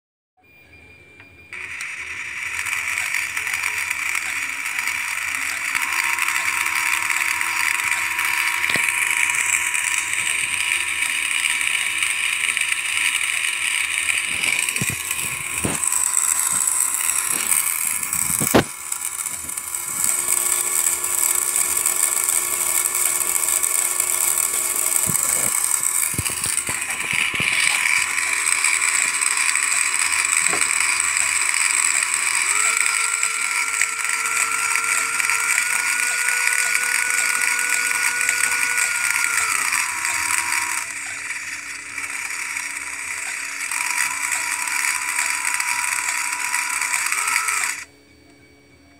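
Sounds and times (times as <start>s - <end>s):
motor whine rising in pitch: 1.2s - 48.2s
small electric motor whirring: 1.5s - 47.9s
sharp clicks: 1.6s - 47.9s.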